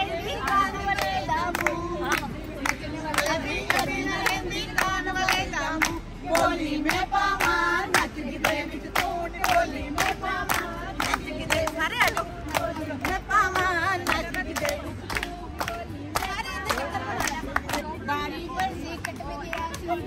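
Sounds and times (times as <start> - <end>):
women clapping in rhythm: 0.0 - 20.0
women singing in chorus: 0.0 - 20.0.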